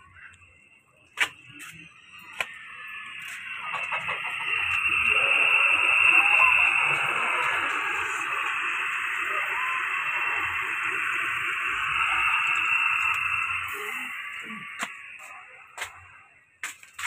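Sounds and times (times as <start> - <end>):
cooking pot hissing: 2.3 - 16.2.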